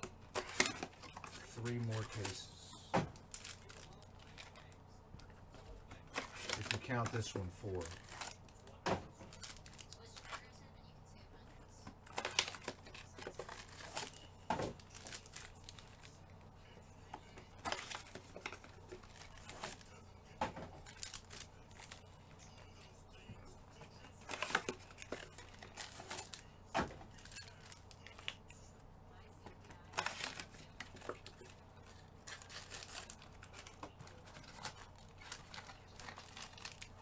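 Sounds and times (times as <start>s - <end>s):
foil wrappers crinkling and tearing: 0.3s - 4.8s, 6.0s - 10.6s, 12.0s - 23.3s, 23.9s - 28.5s, 29.7s - 37.0s.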